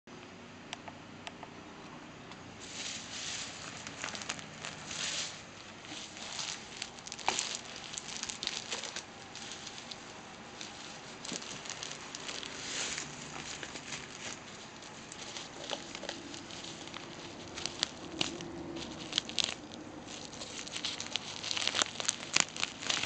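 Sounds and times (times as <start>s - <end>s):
bubble wrap crinkling: 2.6s - 23.0s.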